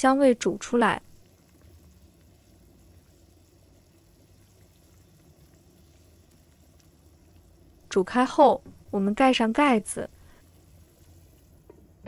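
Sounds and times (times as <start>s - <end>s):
faint simmering liquid bubbling: 0.2s - 12.0s.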